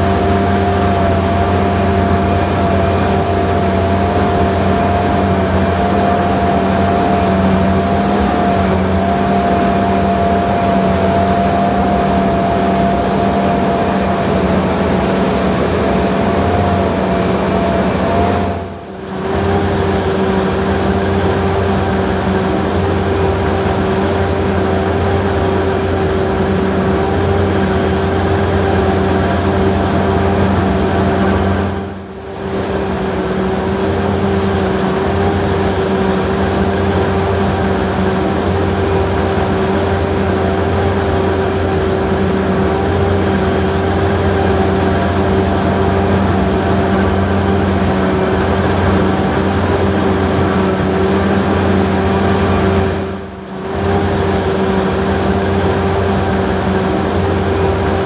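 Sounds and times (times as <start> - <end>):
diesel machinery rumbling: 0.0 - 58.0
machinery whine: 0.0 - 58.0.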